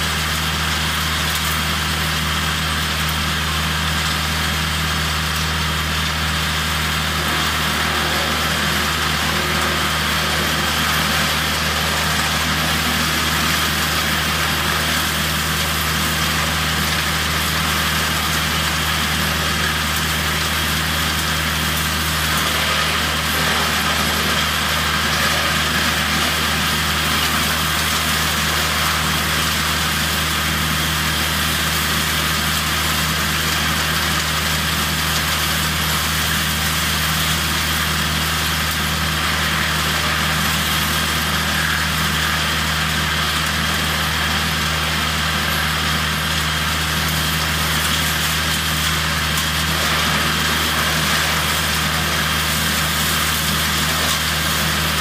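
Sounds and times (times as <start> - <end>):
wood chipper engine drone: 0.0 - 55.0.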